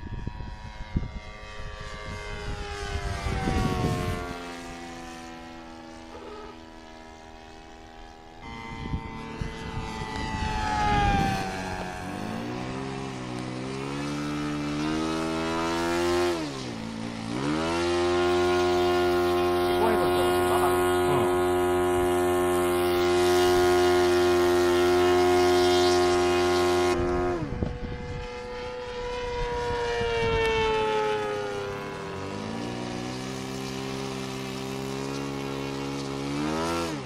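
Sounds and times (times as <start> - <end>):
model airplane engine running: 0.0 - 37.0.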